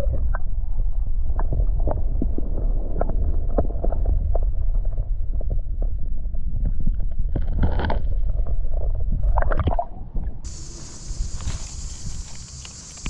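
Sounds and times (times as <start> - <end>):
heavy low rumble: 0.0 - 13.0.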